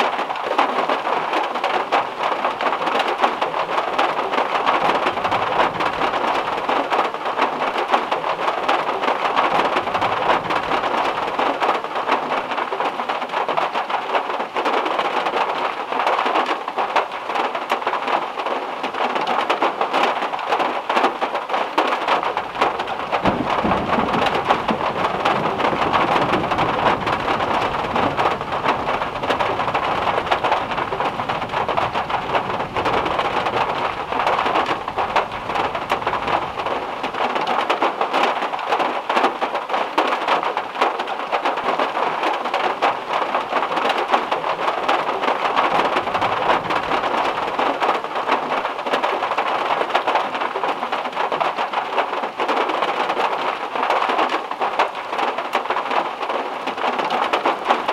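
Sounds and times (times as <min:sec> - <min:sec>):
rain drumming on metal roof: 0:00.0 - 0:57.9.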